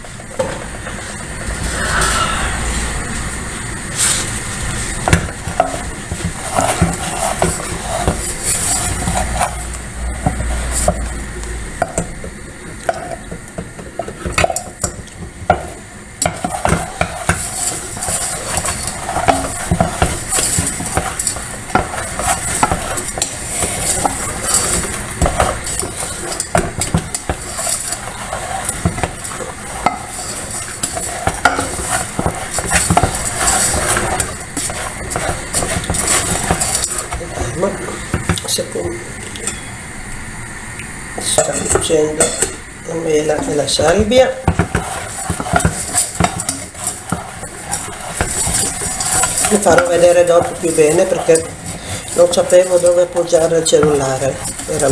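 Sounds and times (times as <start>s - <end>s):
steady sizzle: 0.0s - 54.9s
spoon scraping a pan: 0.4s - 39.8s, 41.2s - 54.9s.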